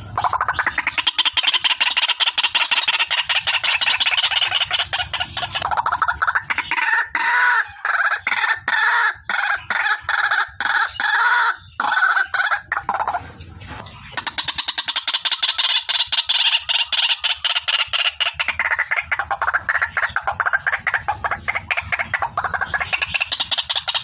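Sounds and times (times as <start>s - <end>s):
waterhen calling harshly: 0.0s - 24.0s.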